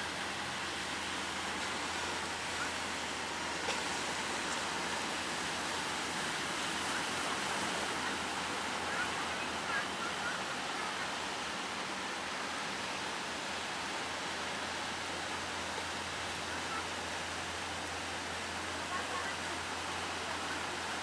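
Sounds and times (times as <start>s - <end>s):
sea surf and breaking waves: 0.0s - 21.0s.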